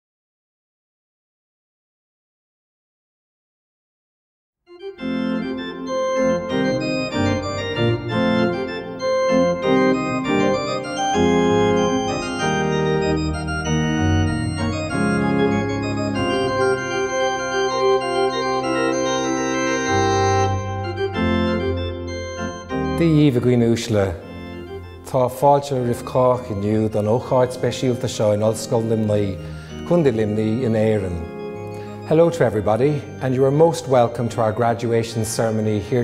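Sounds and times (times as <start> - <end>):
organ chords: 4.7 - 36.0.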